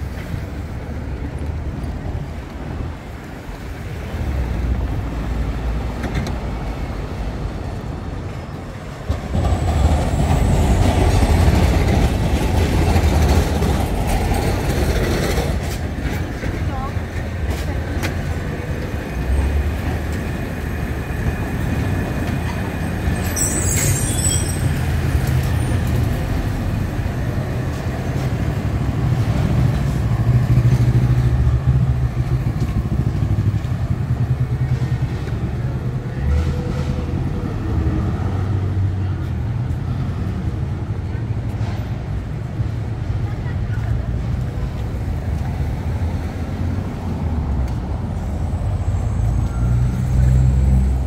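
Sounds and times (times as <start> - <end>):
trams and cars rumbling: 0.0 - 51.0.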